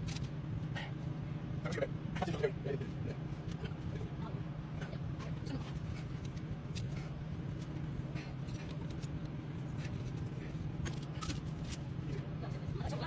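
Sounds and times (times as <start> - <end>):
idling vehicle engine hum: 0.0 - 13.0.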